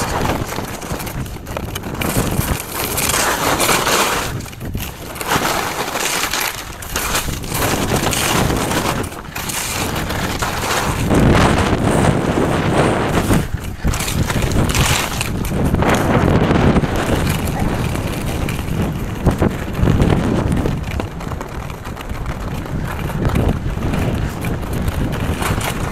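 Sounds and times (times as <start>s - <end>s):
skis scraping over snow: 0.0s - 25.9s.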